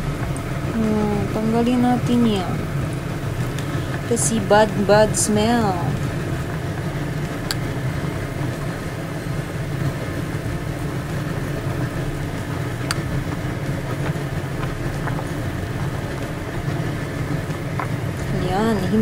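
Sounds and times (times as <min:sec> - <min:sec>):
pot boiling and bubbling: 0:00.0 - 0:19.0.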